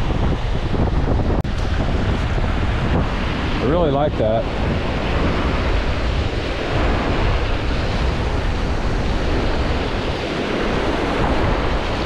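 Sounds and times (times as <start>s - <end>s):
wind rumbling on microphone: 0.0s - 12.0s
waves washing onto rocky beach: 1.5s - 12.0s.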